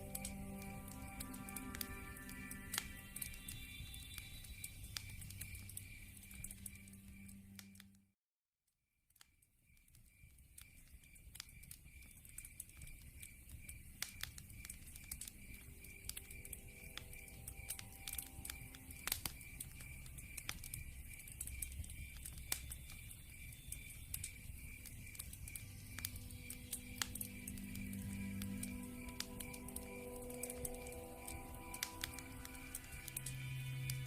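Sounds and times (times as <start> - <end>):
low rumble of burning logs: 0.0 - 7.8, 9.9 - 34.0
cricket chirping: 0.0 - 7.9, 9.3 - 34.0
wood fire crackling and popping: 0.0 - 7.9, 9.7 - 34.0.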